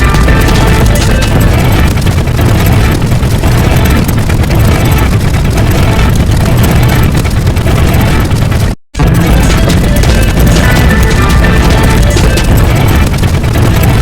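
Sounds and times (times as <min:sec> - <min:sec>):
heavy engine-like rumble: 0:00.0 - 0:14.0
layered sound effects: 0:00.0 - 0:14.0.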